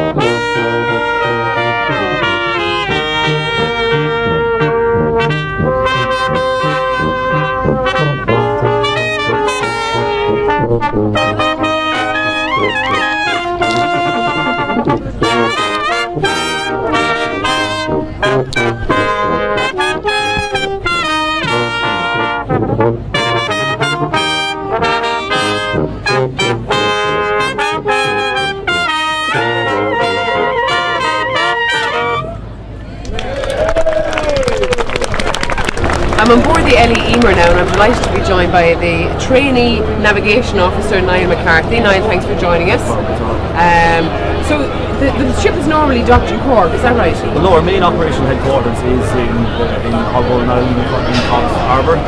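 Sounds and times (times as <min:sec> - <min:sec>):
brass band playing: 0:00.0 - 0:32.7, 0:35.7 - 0:52.0.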